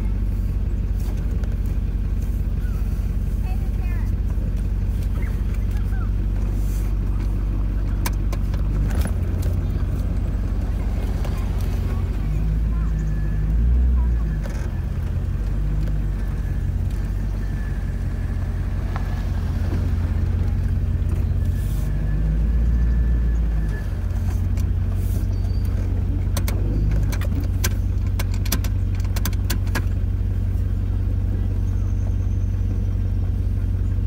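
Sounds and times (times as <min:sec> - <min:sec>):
engine idling: 0:00.0 - 0:34.0
sharp clicks and rattles: 0:00.7 - 0:21.6, 0:23.0 - 0:31.8.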